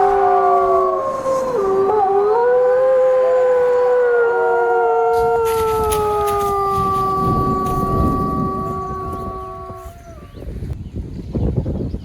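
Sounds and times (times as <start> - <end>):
wolves howling: 0.0 - 10.7.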